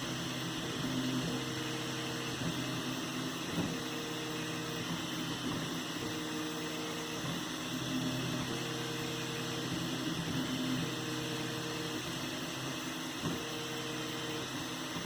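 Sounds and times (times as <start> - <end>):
stepper motor tones: 0.0 - 15.0.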